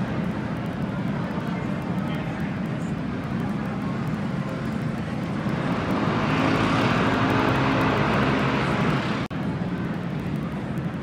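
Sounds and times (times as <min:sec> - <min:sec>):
crowd hubbub: 0:00.0 - 0:09.3.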